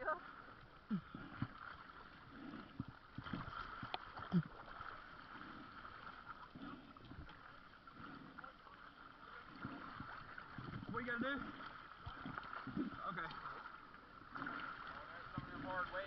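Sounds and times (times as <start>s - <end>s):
water lapping and sloshing: 0.0s - 16.0s.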